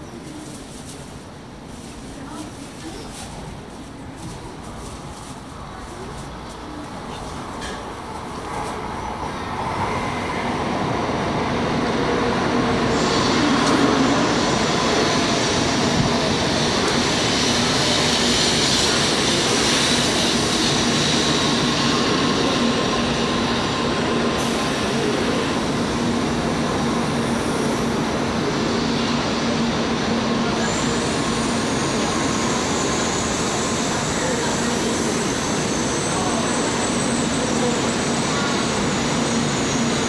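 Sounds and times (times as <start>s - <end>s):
train rolling past platform: 0.0s - 40.0s.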